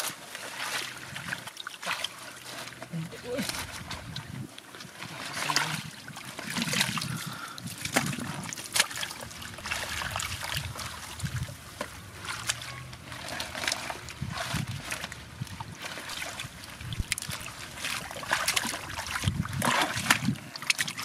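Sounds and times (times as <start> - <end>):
mud squelching: 0.0 - 21.0
small water splashes: 0.0 - 21.0.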